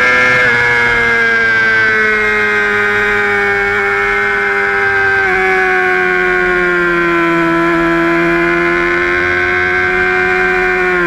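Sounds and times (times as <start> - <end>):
motorcycle engine howling at high revs: 0.0 - 11.0.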